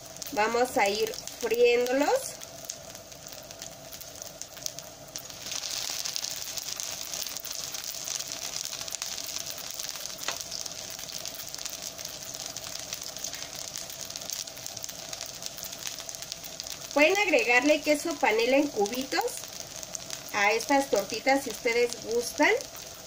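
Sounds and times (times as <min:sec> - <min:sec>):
oil sizzling and crackling: 0:00.0 - 0:23.0.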